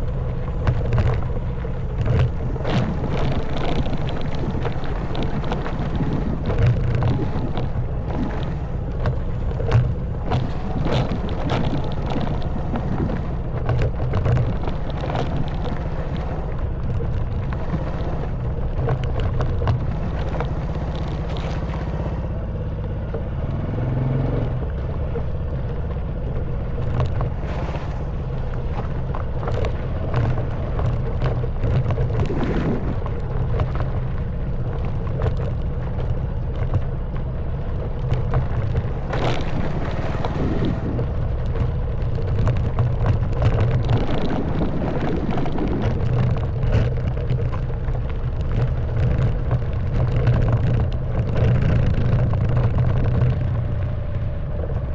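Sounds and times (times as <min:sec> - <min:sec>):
motorcycle engine running: 0:00.0 - 0:54.9
motorcycle rattling over rough track: 0:00.0 - 0:54.9.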